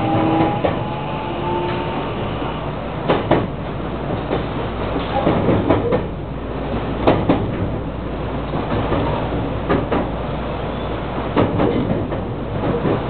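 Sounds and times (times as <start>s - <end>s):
electric train rumbling: 0.0s - 13.0s
train wheels clacking over rail joints: 0.0s - 13.0s.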